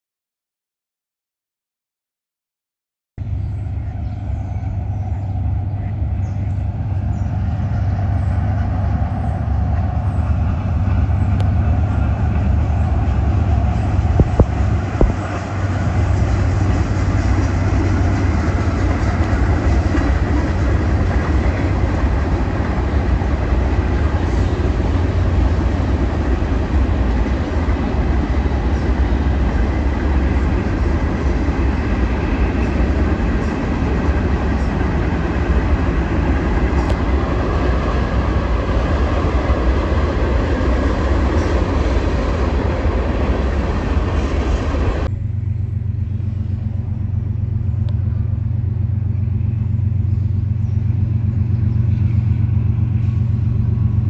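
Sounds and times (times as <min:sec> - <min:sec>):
freight train rumbling past: 0:03.2 - 0:54.0.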